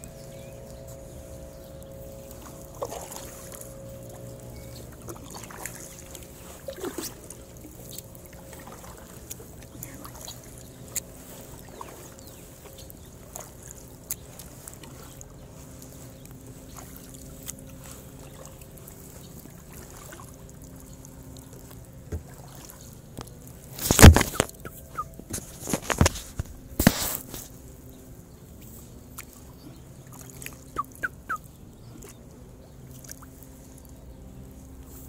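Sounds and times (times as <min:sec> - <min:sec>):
kayak paddle strokes: 0:00.0 - 0:35.0.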